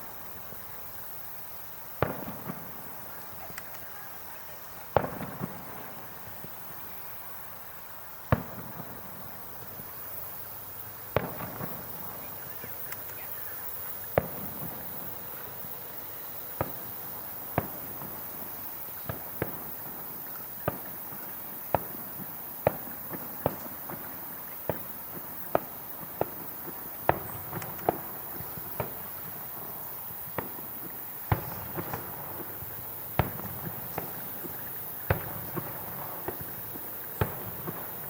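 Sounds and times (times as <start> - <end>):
fireworks bursting in sharp bangs: 0.0 - 38.0.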